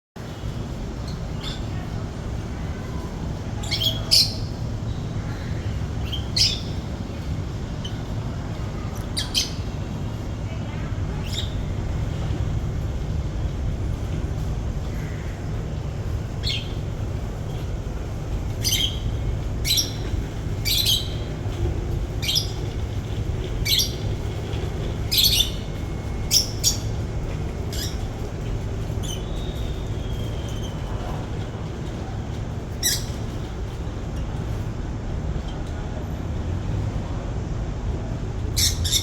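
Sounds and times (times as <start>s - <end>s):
steady low rumble: 0.2s - 39.0s.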